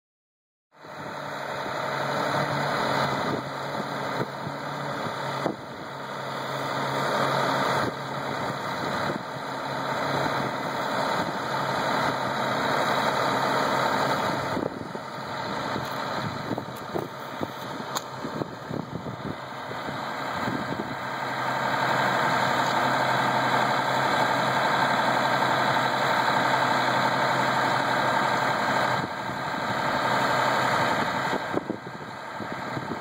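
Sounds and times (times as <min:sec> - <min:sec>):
truck engine idling: 0:00.8 - 0:33.0.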